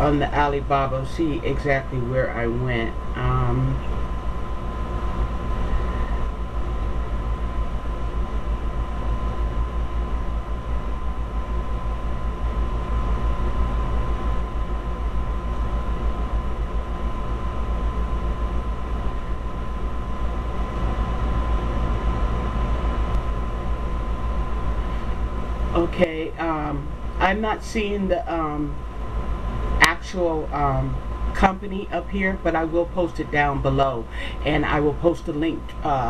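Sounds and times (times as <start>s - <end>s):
low rumbling hum: 0.0s - 36.0s
thin high whine: 0.0s - 36.0s.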